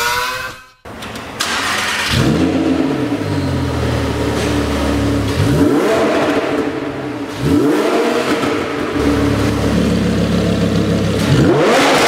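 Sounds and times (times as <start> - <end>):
sports car engine revving: 1.4 - 12.0.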